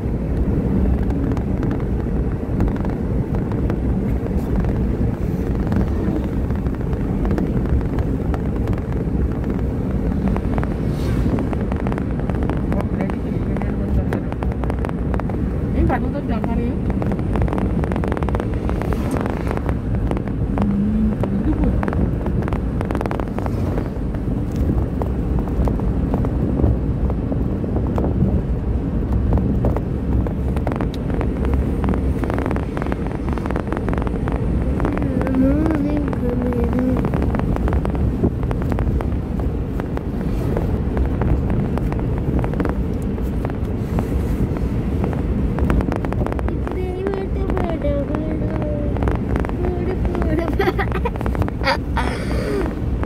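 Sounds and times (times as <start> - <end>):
car road and engine noise: 0.0 - 53.0
wind buffeting microphone: 0.0 - 53.0.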